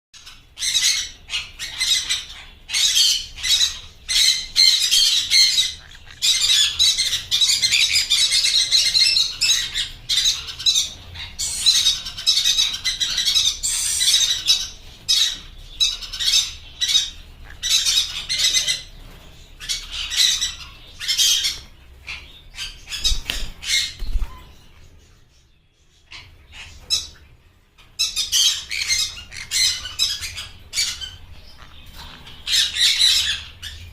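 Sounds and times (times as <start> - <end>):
conures squawking: 0.2 - 24.8, 26.0 - 33.9.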